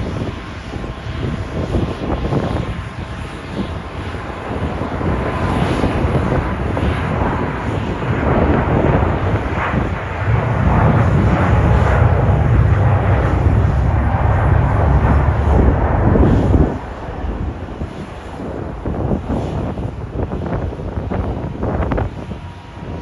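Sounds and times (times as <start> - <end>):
jet engines rumbling: 0.0 - 23.0
wind buffeting microphone: 0.0 - 23.0.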